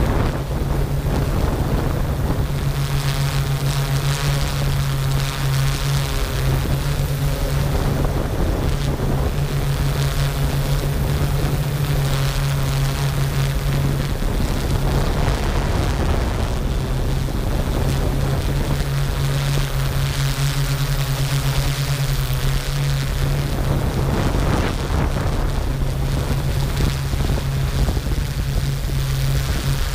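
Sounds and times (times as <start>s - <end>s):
quadcopter propellers droning: 0.0s - 29.9s.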